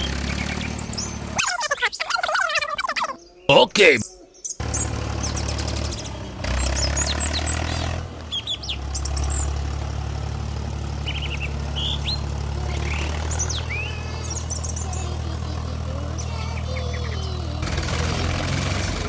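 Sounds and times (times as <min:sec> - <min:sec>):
tractor engine droning: 0:00.0 - 0:01.6, 0:04.6 - 0:19.0
birds chirping: 0:00.0 - 0:09.6, 0:11.1 - 0:17.4.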